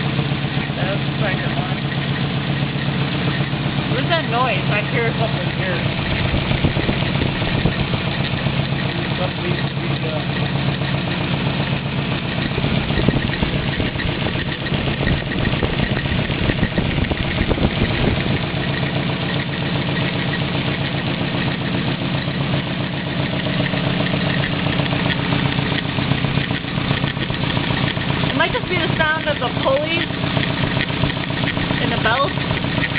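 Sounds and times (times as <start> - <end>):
car engine idling: 0.0 - 32.9
strange engine noise: 0.0 - 32.9.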